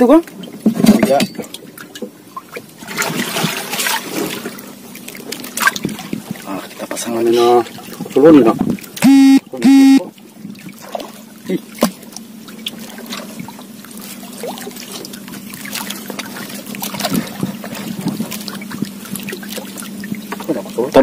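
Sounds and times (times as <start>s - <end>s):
water lapping against canoe hull: 0.0s - 21.0s.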